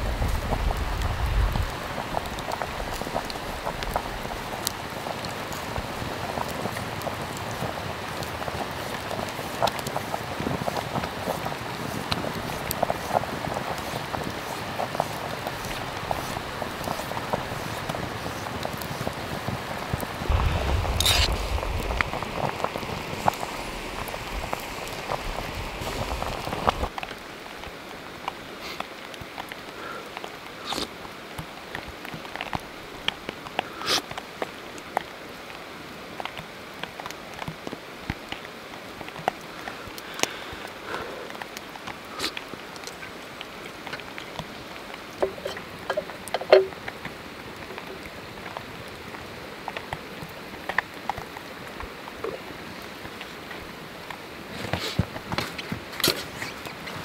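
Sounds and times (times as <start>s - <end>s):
pot boiling over campfire: 0.0s - 57.0s
snowfall pattering: 0.0s - 57.0s.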